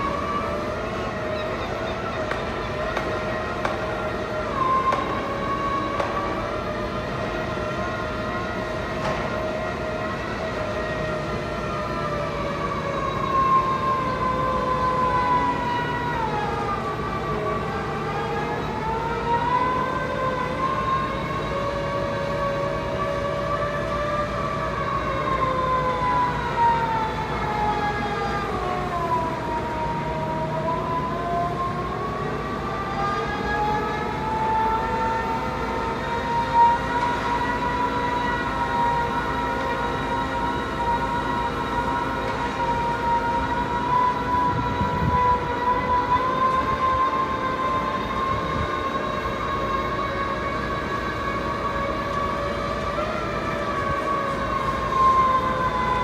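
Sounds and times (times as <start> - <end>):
piling rig machinery whine: 0.0 - 56.0.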